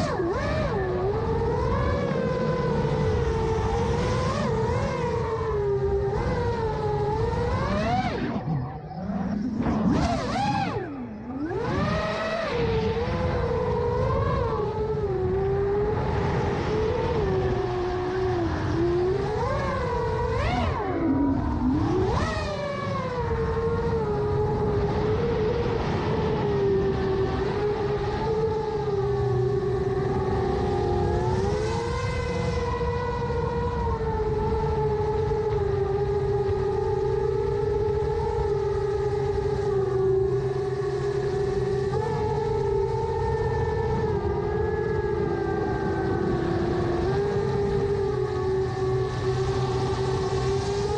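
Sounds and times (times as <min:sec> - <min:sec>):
quadcopter motors whining: 0:00.0 - 0:50.9.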